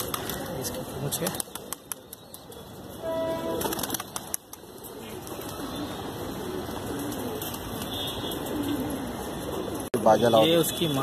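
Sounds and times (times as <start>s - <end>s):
pigeons cooing: 0.0s - 9.9s.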